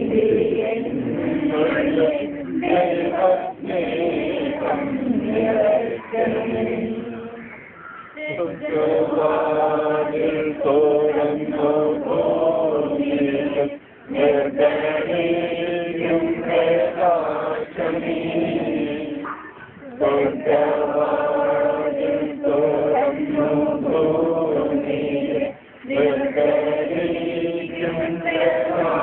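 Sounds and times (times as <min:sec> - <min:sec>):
group chanting a prayer: 0:00.0 - 0:29.0.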